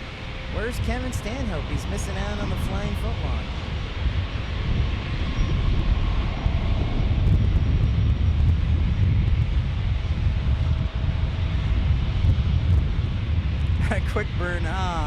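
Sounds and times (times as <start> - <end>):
airliner jet engines passing: 0.0 - 15.0.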